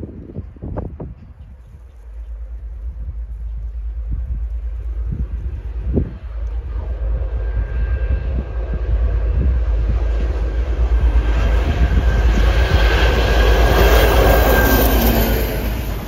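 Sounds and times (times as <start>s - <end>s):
diesel locomotive engine rumble: 0.0s - 16.0s
thin steady whine: 1.6s - 16.0s.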